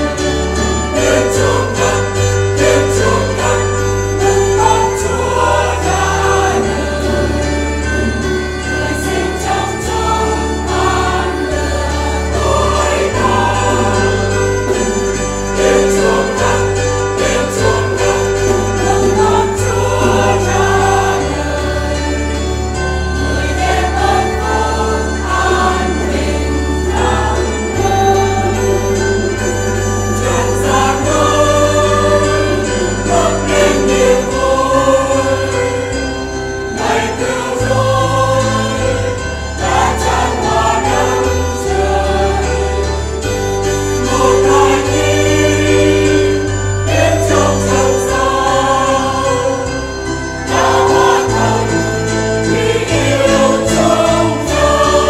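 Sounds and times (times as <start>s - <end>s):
church choir singing: 0.0s - 55.0s
instrumental accompaniment: 0.0s - 55.0s.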